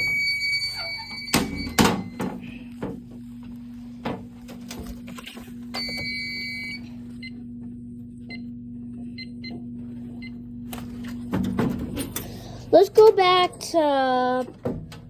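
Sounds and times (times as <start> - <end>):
low hum: 0.0 - 12.8.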